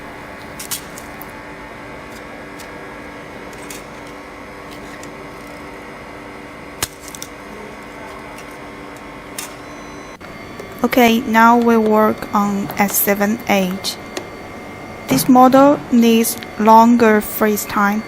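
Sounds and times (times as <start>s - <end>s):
refrigeration unit humming: 0.0s - 18.0s.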